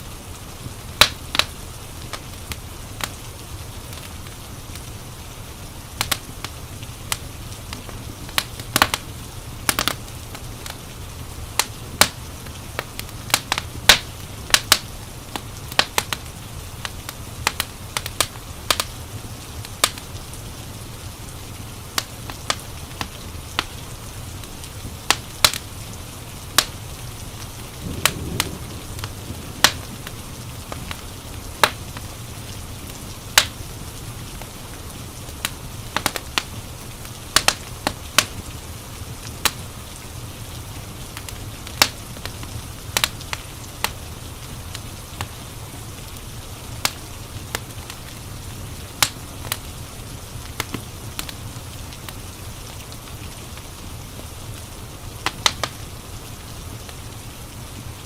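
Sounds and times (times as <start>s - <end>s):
soft hiss of rain: 0.0s - 58.0s
wood fire crackling: 0.0s - 58.0s.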